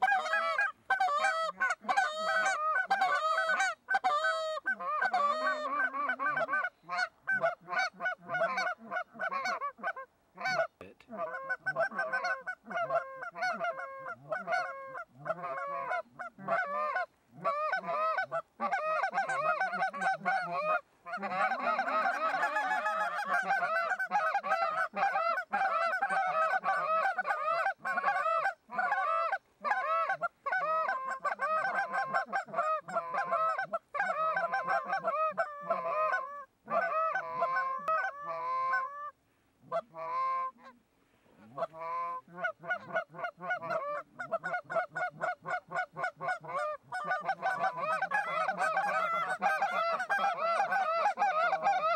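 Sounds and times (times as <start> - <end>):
geese honking and clucking: 0.0 - 51.9.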